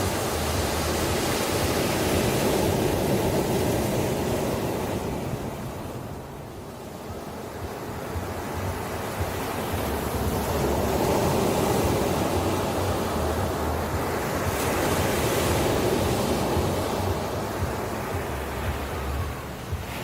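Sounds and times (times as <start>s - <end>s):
ocean surf washing: 0.0s - 20.0s.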